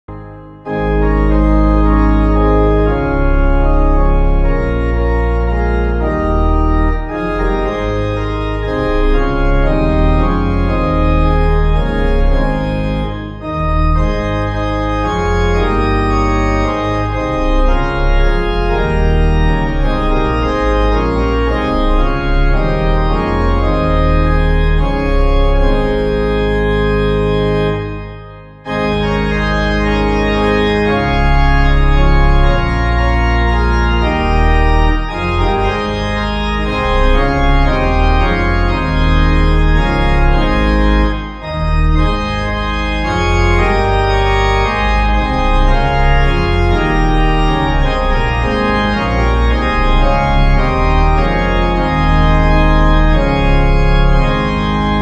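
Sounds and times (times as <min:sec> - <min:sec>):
organ music: 0:00.0 - 0:55.0.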